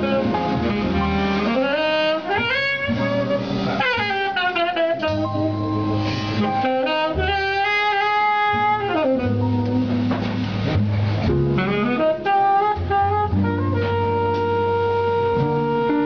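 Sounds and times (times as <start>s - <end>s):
double bass: 0.0s - 16.0s
tenor saxophone melody: 0.0s - 16.0s.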